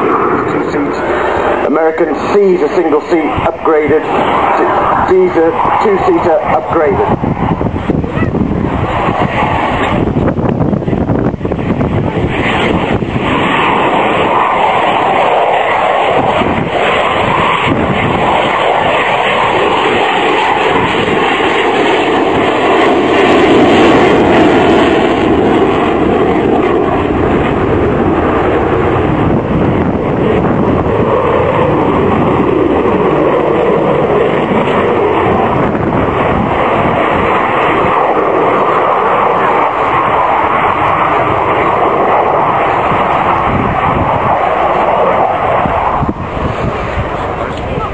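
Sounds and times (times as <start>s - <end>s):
fighter jet engine roaring: 0.0s - 47.9s.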